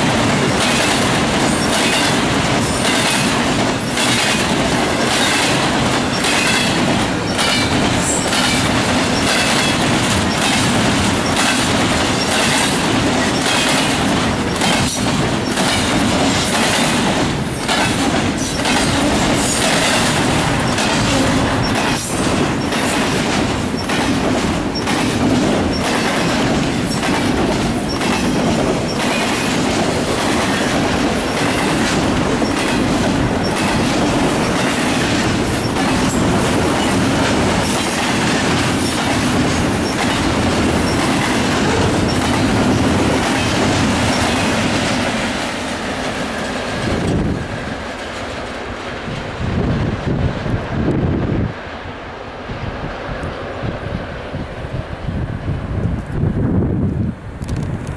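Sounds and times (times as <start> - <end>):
wheels clacking over rail joints: 0.0 - 49.3
train wheels rumbling on rail: 0.0 - 57.9.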